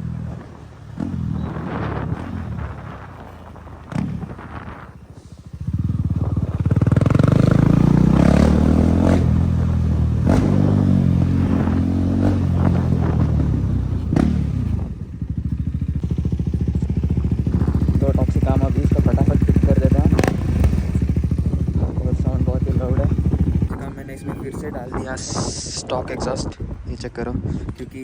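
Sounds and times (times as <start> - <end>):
sharp exhaust cracks: 0.0 - 26.5
motorcycle engine revving: 0.0 - 26.6.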